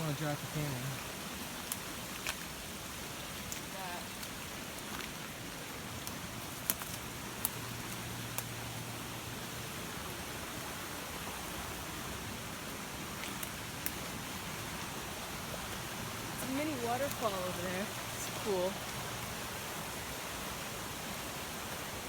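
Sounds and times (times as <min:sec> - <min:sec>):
flooded creek rushing: 0:00.0 - 0:22.0.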